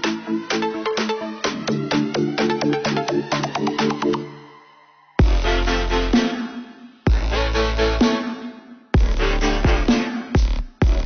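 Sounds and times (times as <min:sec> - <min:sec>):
sharp percussive electronic beat: 0:00.0 - 0:04.3, 0:05.2 - 0:11.0
held synth chords: 0:00.0 - 0:10.0.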